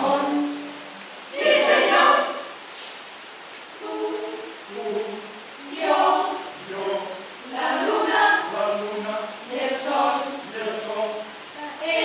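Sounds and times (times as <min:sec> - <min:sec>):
choir singing: 0:00.0 - 0:02.6, 0:03.8 - 0:12.0.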